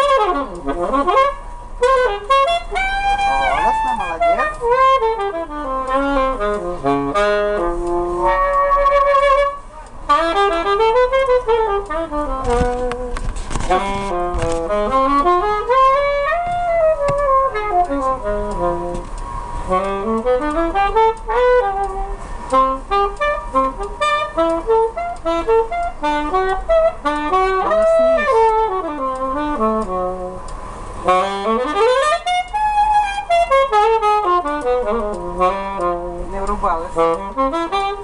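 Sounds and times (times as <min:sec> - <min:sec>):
saxophone playing jazz melody: 0:00.0 - 0:38.0
tram rumble: 0:00.0 - 0:38.0.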